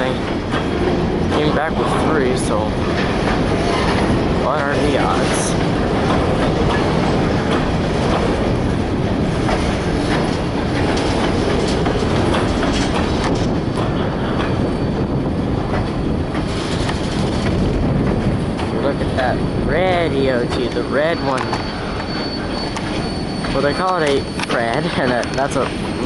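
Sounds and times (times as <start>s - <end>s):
train wheels rumbling on rail: 0.0s - 26.0s
wheels clicking over rail joints: 0.0s - 26.0s.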